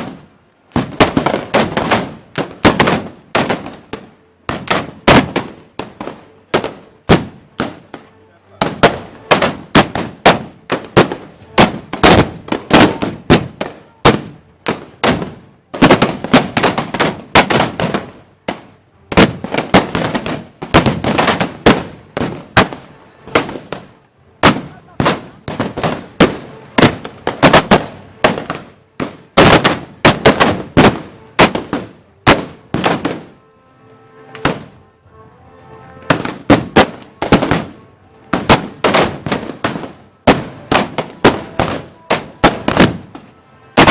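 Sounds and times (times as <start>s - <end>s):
guns firing: 0.0s - 33.3s, 36.1s - 43.9s.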